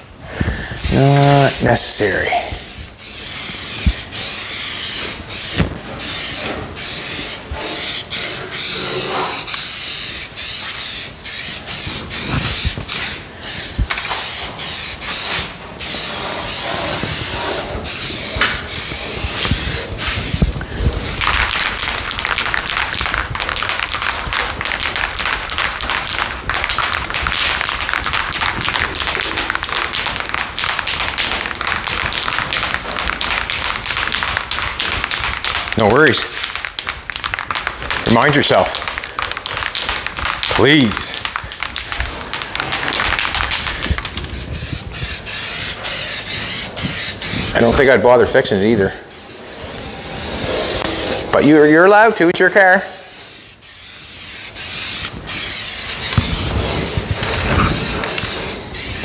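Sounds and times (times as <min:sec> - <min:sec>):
masking tape peeling: 0:00.8 - 0:52.2, 0:52.9 - 0:59.0.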